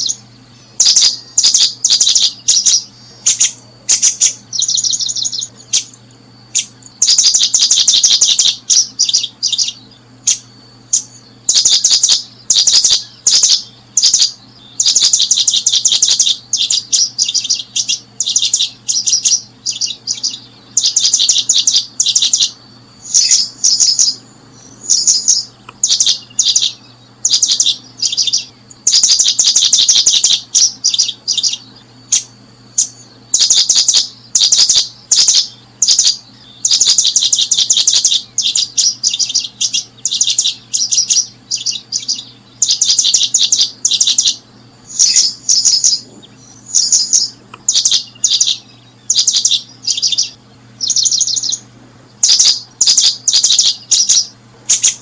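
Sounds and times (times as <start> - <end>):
faint low hum: 0.0 - 55.0
small birds chirping: 0.0 - 55.0.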